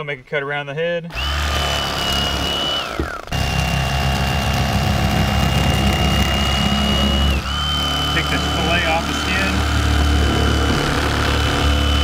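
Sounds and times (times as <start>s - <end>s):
electric fillet knife whining: 1.1s - 12.0s.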